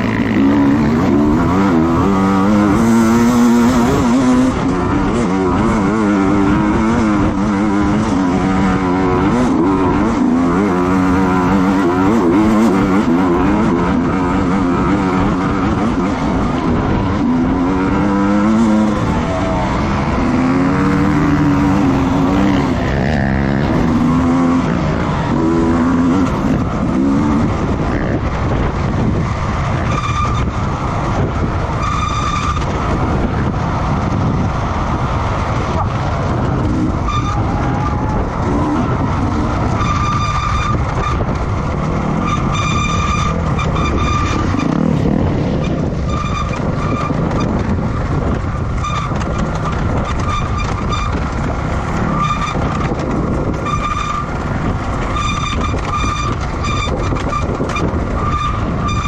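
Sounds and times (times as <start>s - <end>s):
motorcycle engines revving and passing: 0.0s - 59.0s
tyre noise: 0.0s - 59.0s.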